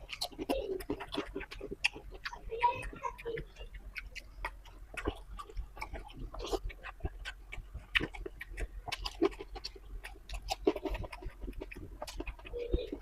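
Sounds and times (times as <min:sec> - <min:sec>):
person chewing: 0:00.0 - 0:13.0
wet mouth clicks and smacks: 0:00.0 - 0:13.0.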